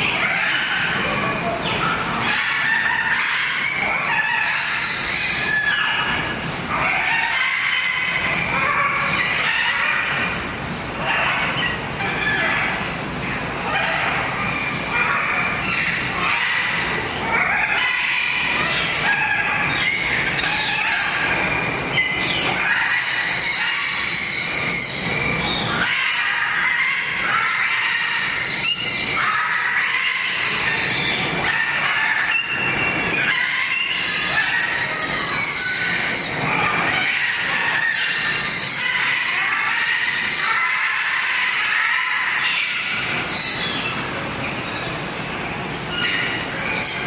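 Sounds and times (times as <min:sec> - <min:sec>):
flock of birds squawking: 0:00.0 - 0:47.0.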